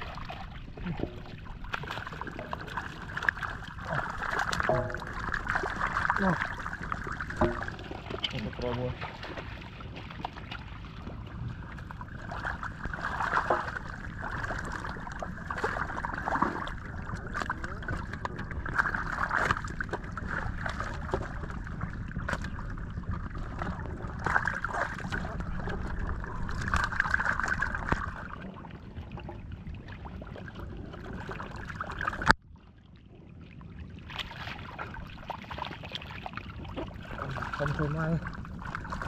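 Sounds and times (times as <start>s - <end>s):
muddy water splashing: 0.0s - 32.3s, 34.1s - 39.0s.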